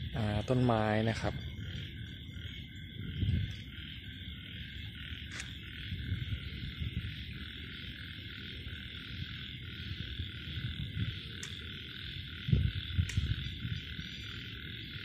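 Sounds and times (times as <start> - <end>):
night animals calling: 0.0 - 15.0.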